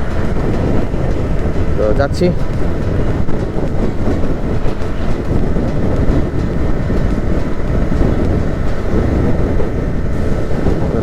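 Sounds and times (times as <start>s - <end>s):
motorcycle engine and road noise: 0.0s - 11.0s
wind buffeting microphone: 0.0s - 11.0s.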